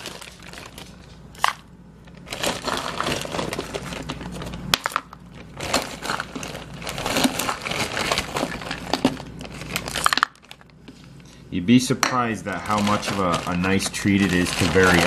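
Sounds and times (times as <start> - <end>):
frozen berries clattering into containers: 0.0 - 10.7, 11.9 - 15.0
plastic bag crinkling: 0.0 - 11.3, 12.1 - 15.0.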